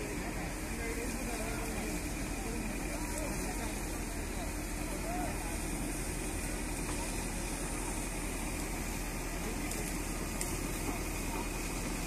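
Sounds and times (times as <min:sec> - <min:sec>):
pump engine running: 0:00.0 - 0:12.0
water jet hissing: 0:00.0 - 0:12.0.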